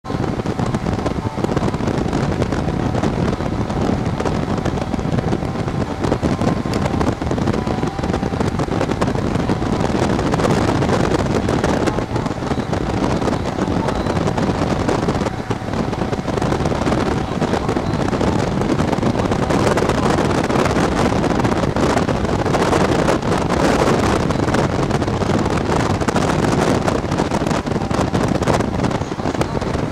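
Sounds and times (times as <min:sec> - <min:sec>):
motorcycle and road noise: 0:00.0 - 0:29.9
wind buffeting microphone: 0:00.0 - 0:29.9.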